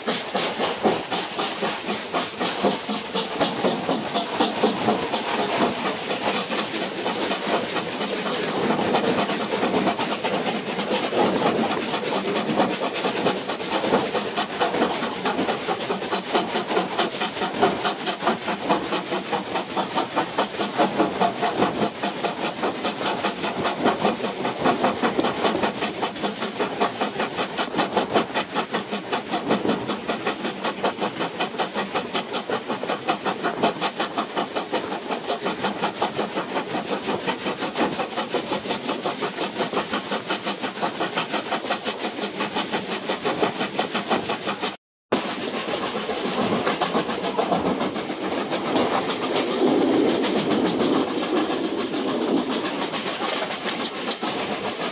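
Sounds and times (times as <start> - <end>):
steam locomotive exhaust chuffing: 0.0 - 54.9.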